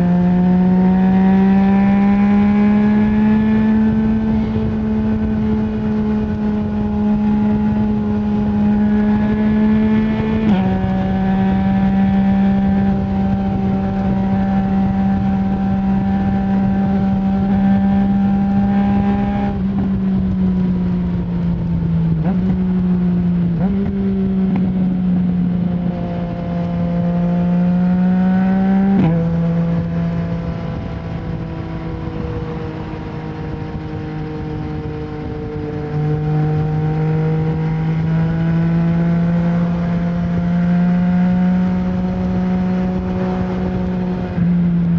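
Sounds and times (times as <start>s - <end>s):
gear change: 0.0s - 44.9s
motorcycle engine cruising: 0.0s - 44.9s.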